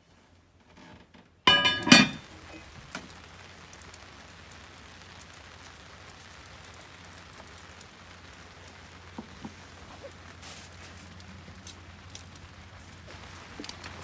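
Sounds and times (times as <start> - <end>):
steady rain falling: 1.5 - 14.0.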